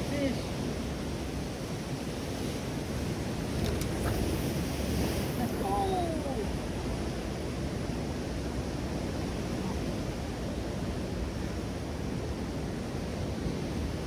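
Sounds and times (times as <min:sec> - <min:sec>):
ocean surf: 0:00.0 - 0:14.0
wind: 0:00.0 - 0:14.0.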